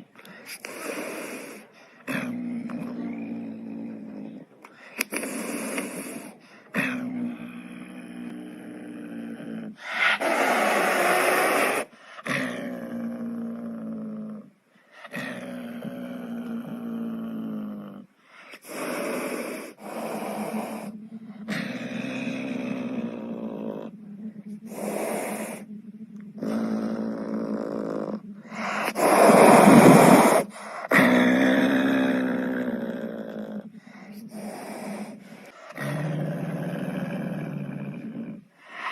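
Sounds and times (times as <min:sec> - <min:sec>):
wild cat growling: 0:00.0 - 0:14.5, 0:15.1 - 0:38.9
hissing snarls: 0:00.0 - 0:38.9.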